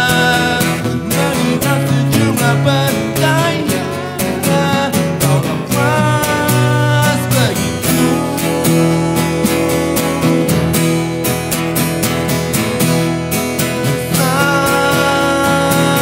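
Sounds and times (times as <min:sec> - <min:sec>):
man singing: 0:00.0 - 0:11.1, 0:13.9 - 0:16.0
acoustic guitars strumming: 0:00.0 - 0:16.0.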